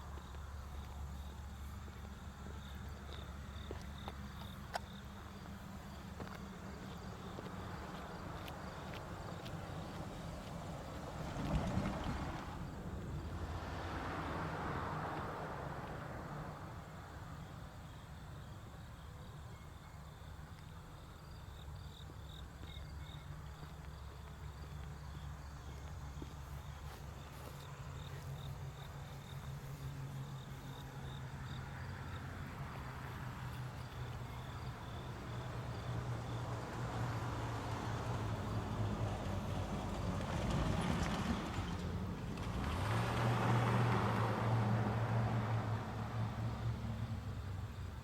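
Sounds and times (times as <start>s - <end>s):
car approaching: 0.0s - 19.5s, 20.8s - 48.0s
crickets chirping: 0.0s - 48.0s.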